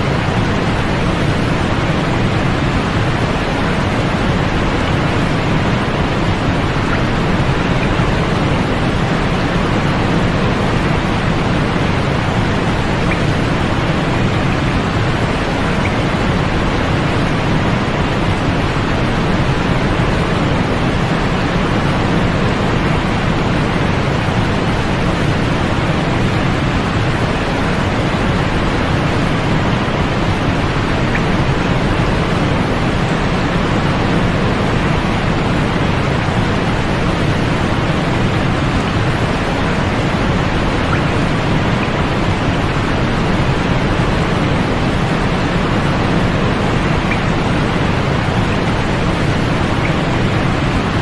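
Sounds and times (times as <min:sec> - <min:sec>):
steady white noise hiss: 0:00.0 - 0:51.0.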